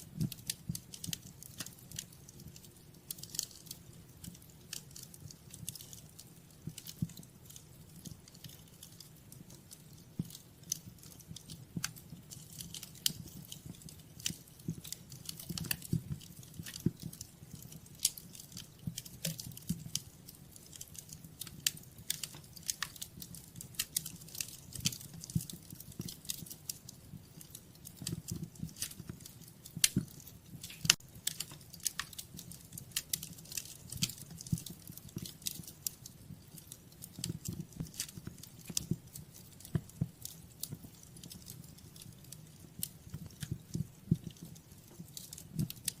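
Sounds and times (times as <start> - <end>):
low fire rumble: 0.0 - 46.0
wood fire crackling: 0.0 - 46.0.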